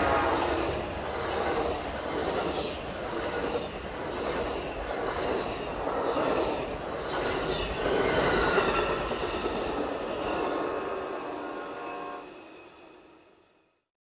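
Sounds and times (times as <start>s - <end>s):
train wheels rumbling on rails: 0.0s - 13.4s.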